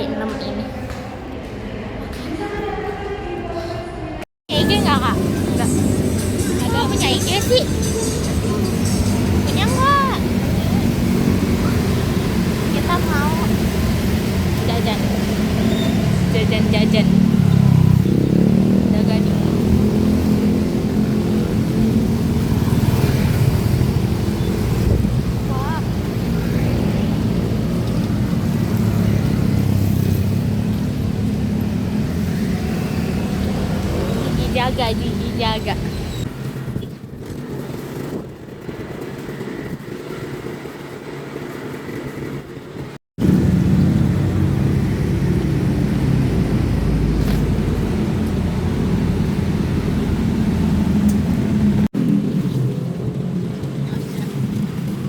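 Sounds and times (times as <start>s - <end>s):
road noise: 0.0s - 55.0s
vehicle engine rumble: 4.5s - 55.0s.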